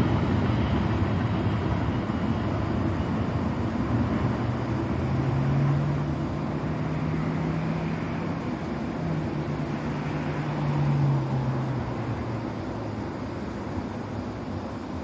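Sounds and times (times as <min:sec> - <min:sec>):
diesel locomotive drone: 0:00.0 - 0:15.0
freight train rumbling: 0:00.0 - 0:15.0.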